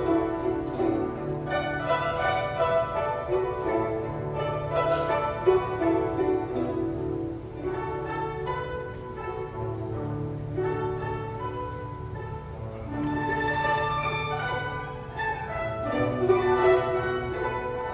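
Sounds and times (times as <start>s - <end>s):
plucked zither ensemble melody: 0.0s - 17.9s.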